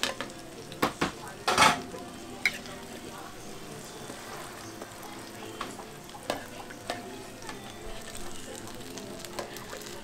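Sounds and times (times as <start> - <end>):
pancakes sizzling on a griddle: 0.0 - 10.0.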